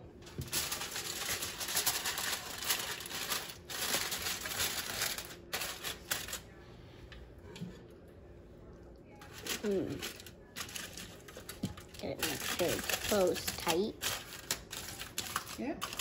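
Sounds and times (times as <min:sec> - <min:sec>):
aluminum foil crinkling: 0:00.2 - 0:06.6, 0:09.2 - 0:16.0.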